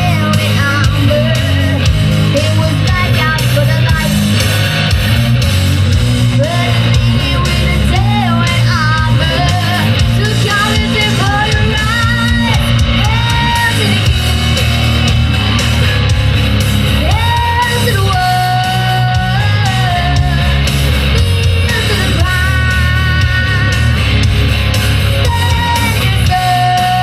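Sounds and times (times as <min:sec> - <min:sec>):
bass guitar: 0:00.0 - 0:27.0
drums: 0:00.0 - 0:27.0
electric guitar lead: 0:00.0 - 0:27.0.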